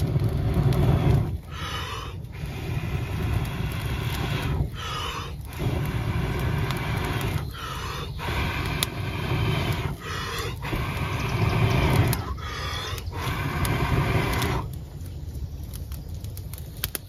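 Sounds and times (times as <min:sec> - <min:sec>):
person blowing on embers: 0:00.0 - 0:15.1.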